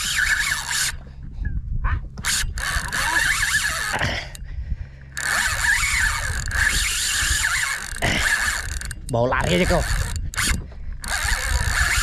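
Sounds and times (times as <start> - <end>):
fishing reel whirring: 0.0 - 1.1, 2.2 - 4.5, 5.1 - 12.0.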